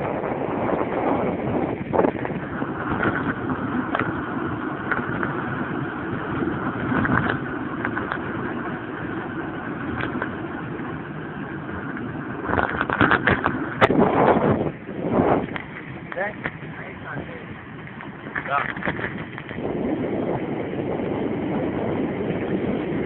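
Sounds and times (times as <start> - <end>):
bicycle road noise: 0.0 - 23.0
rushing wind: 0.0 - 23.0
bicycle clicks and rattles: 0.5 - 14.4, 15.4 - 23.0.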